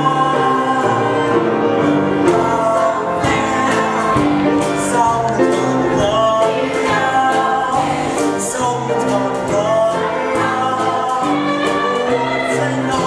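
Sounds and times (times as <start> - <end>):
chorus of young voices singing: 0.0 - 13.0
instrumental accompaniment with percussion: 0.0 - 13.0.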